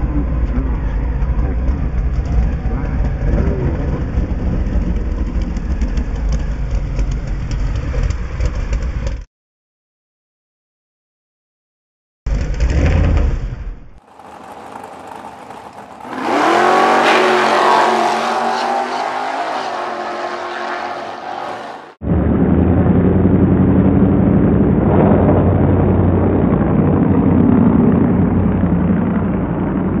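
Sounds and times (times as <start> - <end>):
drag car engine revving: 0.0 - 9.1, 14.0 - 30.0
full-throttle engine run: 0.0 - 9.2, 14.0 - 21.4, 22.0 - 30.0.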